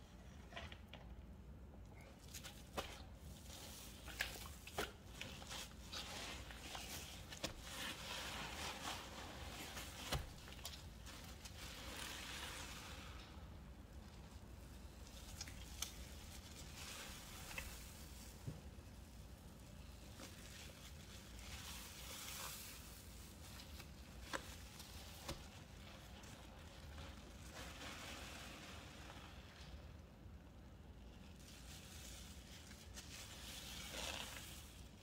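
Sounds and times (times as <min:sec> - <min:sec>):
wet paste squishing: 0:02.0 - 0:30.0.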